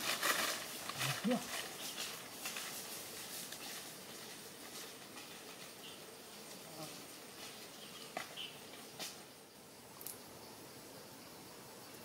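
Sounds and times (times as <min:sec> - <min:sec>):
insects buzzing: 0:00.0 - 0:12.0
steady hiss: 0:00.0 - 0:12.0.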